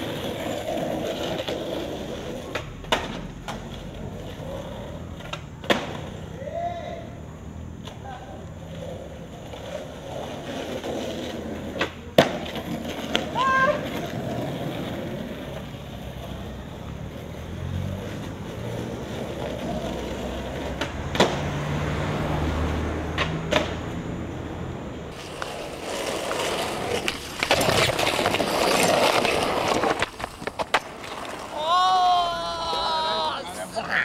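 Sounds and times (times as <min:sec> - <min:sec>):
skateboard clacking: 0:00.0 - 0:06.2, 0:07.8 - 0:21.5, 0:23.1 - 0:24.0, 0:25.1 - 0:34.0
skateboard wheels rolling on pavement: 0:00.0 - 0:34.0.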